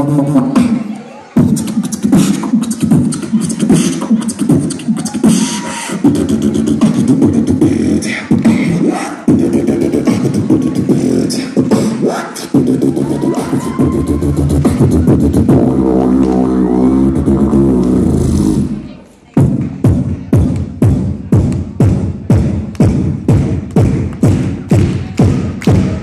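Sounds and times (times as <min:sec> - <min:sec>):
amplified beatboxing: 0:00.0 - 0:26.0.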